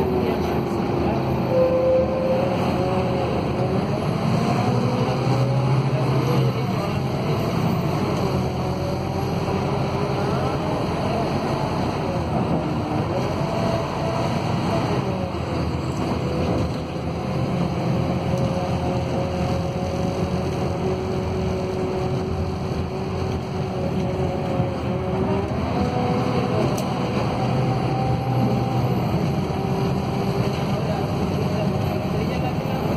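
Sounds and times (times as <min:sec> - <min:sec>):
bus engine whine: 0:00.0 - 0:32.9
diesel bus engine rumble: 0:00.0 - 0:32.9.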